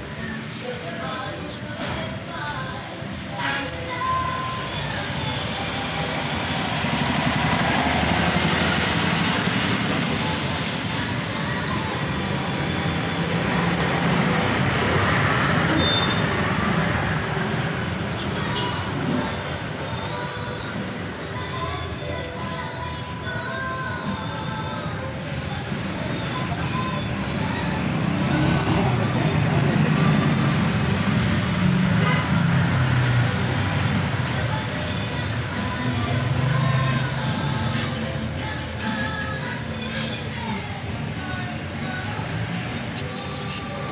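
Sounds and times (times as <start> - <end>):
traffic noise: 0.0 - 43.9
vehicle engine running: 4.1 - 23.1, 25.3 - 43.9.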